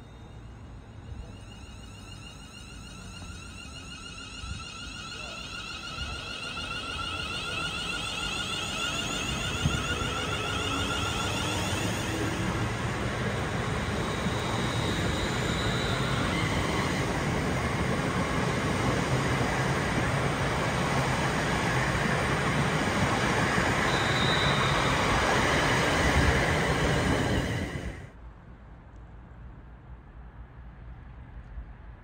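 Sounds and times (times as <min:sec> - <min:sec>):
train wheels rumbling: 0:00.0 - 0:28.1
high whine: 0:00.0 - 0:28.2.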